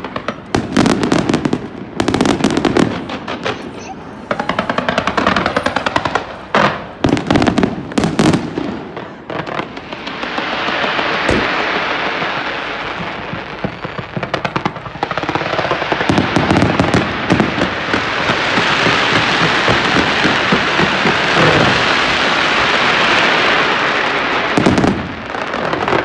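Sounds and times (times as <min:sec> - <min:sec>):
fireworks bangs: 0:00.0 - 0:26.0
fireworks crackling: 0:00.0 - 0:26.0
fireworks hissing: 0:00.0 - 0:26.0.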